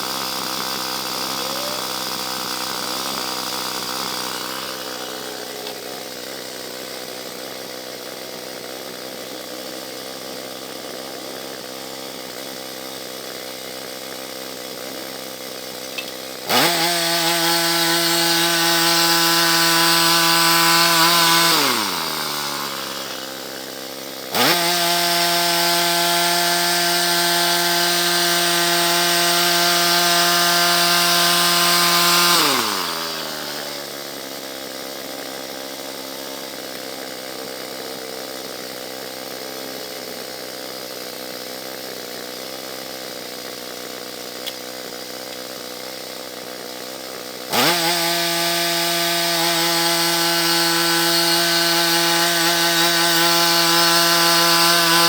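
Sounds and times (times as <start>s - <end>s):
sawmill gasoline engine running: 0.0s - 55.0s.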